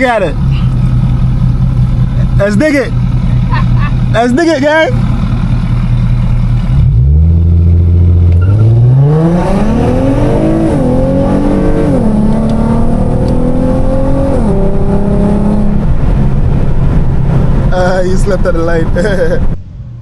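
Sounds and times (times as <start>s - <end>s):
car engine accelerating hard: 0.2s - 20.0s.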